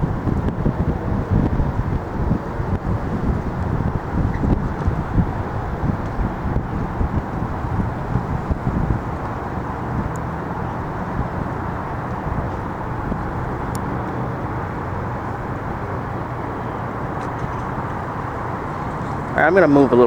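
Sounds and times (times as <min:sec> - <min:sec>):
distant traffic: 0:00.0 - 0:20.0
wind buffeting microphone: 0:00.0 - 0:20.0.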